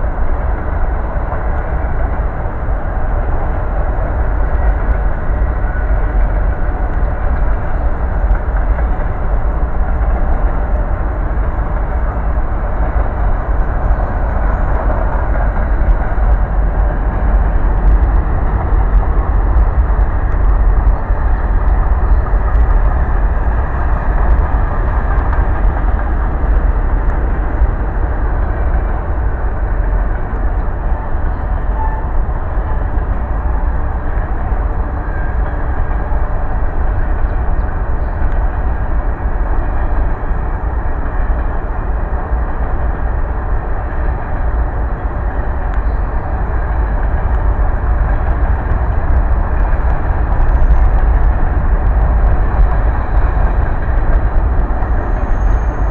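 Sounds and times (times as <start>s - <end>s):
steel wheels on track: 0.0s - 55.9s.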